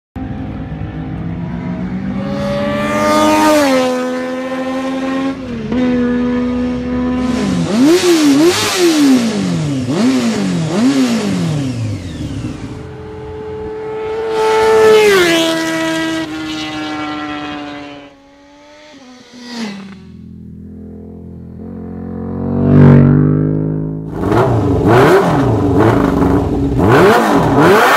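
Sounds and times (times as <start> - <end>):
motorcycle engine revving: 0.2 - 27.9.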